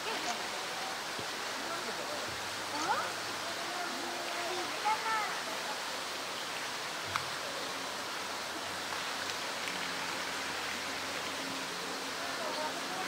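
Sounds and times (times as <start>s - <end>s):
rushing background noise: 0.0s - 13.0s.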